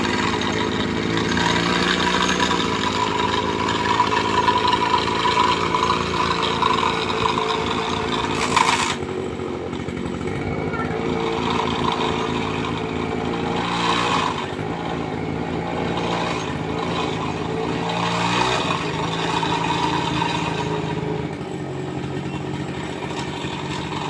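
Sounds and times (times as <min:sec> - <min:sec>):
toy truck motor droning: 0:00.0 - 0:24.0.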